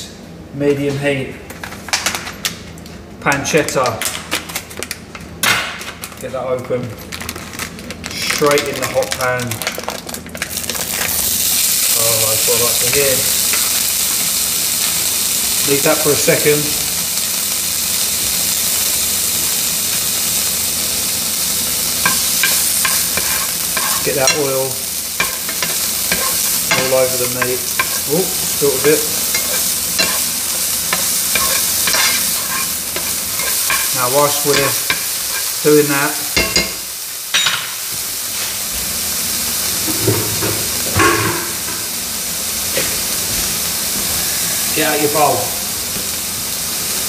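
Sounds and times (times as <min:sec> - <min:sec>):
pancetta sizzling in a frying pan: 0:07.0 - 0:47.0.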